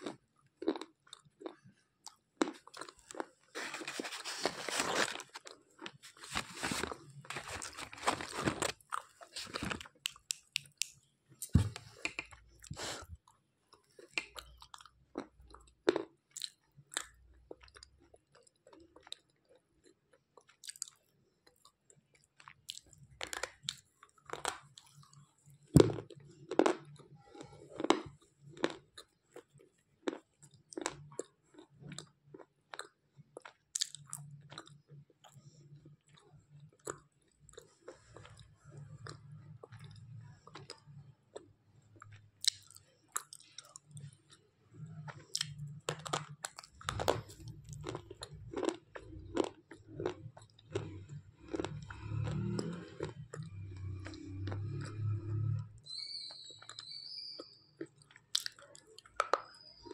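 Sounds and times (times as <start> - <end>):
sharp crunches of chewing: 0.0 - 13.2, 13.9 - 55.7, 56.3 - 59.9
soft grinding chews: 0.0 - 55.7, 57.4 - 59.9.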